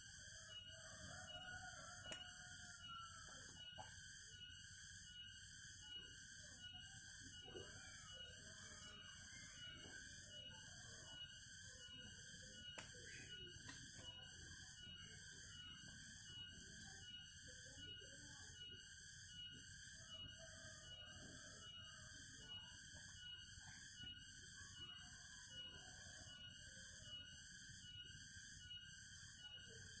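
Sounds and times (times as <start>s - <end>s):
faint pulsing chirr: 0.0s - 30.0s.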